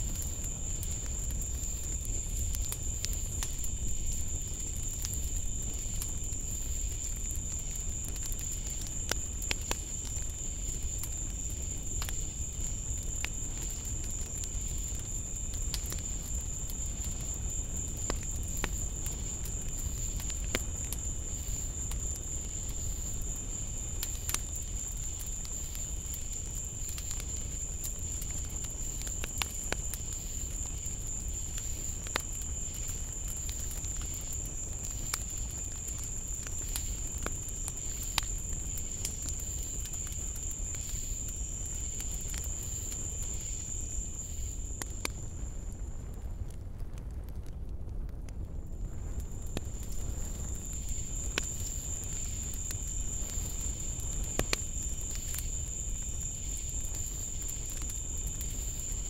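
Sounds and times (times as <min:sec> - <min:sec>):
crickets trilling: 0:00.0 - 0:46.3, 0:48.8 - 0:59.0.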